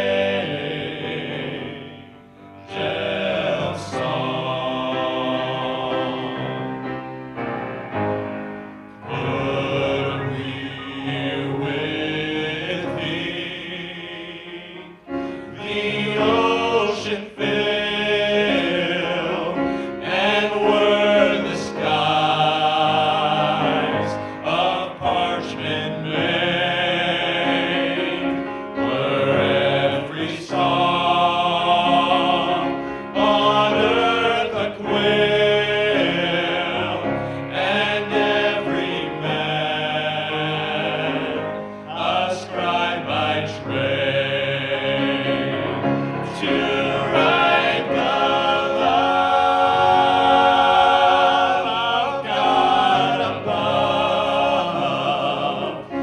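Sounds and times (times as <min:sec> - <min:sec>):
vocal group singing a hymn: 0:00.0 - 0:08.4, 0:09.0 - 0:56.0.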